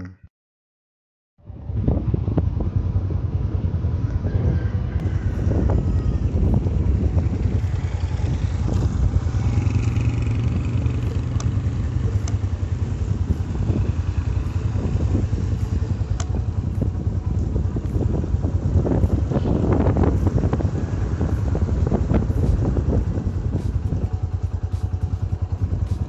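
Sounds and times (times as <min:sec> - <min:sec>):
motorcycle engine running: 0:01.4 - 0:26.0
wind on microphone: 0:01.4 - 0:26.0.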